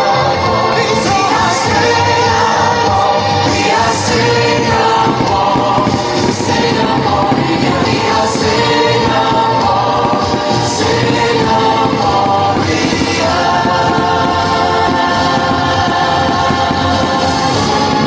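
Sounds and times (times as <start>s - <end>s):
choir singing with music: 0.0s - 18.0s.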